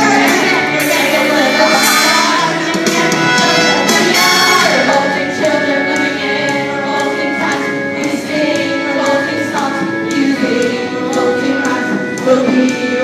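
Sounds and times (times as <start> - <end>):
backing music track: 0.0 - 13.0
children singing together: 0.0 - 13.0.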